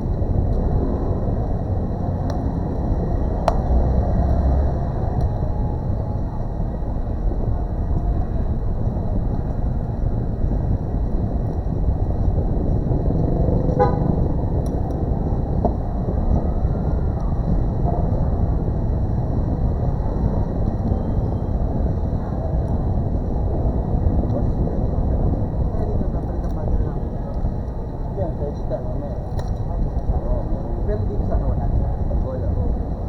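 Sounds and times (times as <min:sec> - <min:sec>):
low rumble of background noise: 0:00.0 - 0:33.0.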